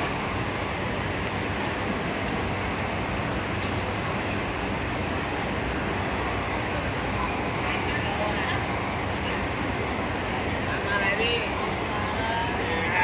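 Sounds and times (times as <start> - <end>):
busy market hall din: 0.0 - 13.0.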